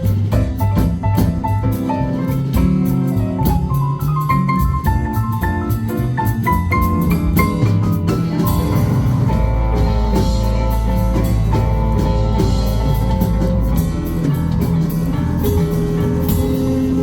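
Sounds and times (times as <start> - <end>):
live funk band playing: 0.0 - 17.0.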